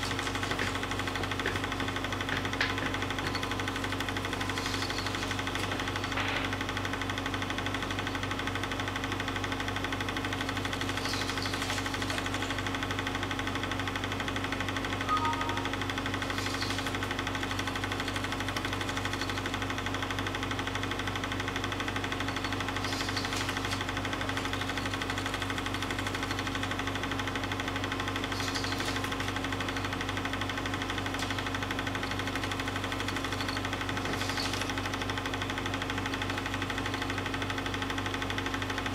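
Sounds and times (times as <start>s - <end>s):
film projector clatter and hum: 0.0s - 38.9s.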